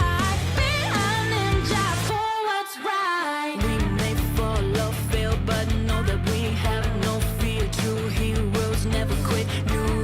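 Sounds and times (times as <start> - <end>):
rock music with guitar and vocals: 0.0 - 10.0.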